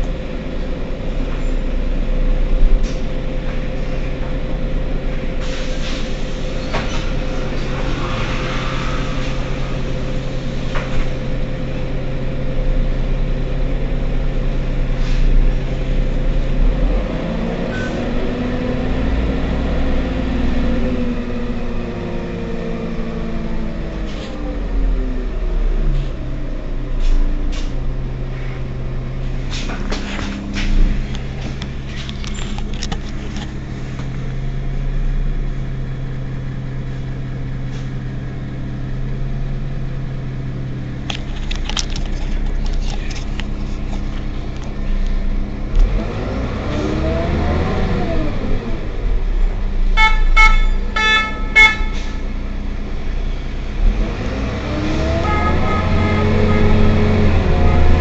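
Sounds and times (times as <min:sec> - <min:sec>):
bus engine: 0:00.0 - 0:58.0.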